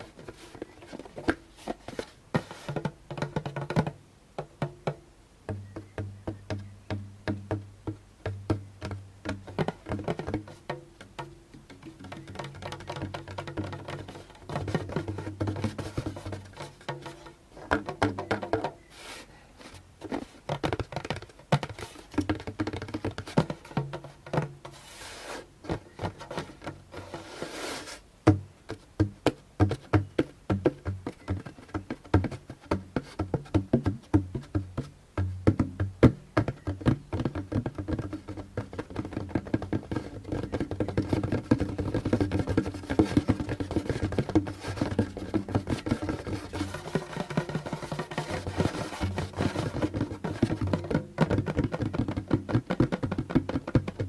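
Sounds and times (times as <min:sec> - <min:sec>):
rubbing strokes on drum skin: 0:00.0 - 0:03.7, 0:11.8 - 0:28.1, 0:28.7 - 0:35.3, 0:36.5 - 0:53.3
hand drum tapping: 0:02.4 - 0:18.9, 0:20.1 - 0:24.8, 0:28.2 - 0:54.0.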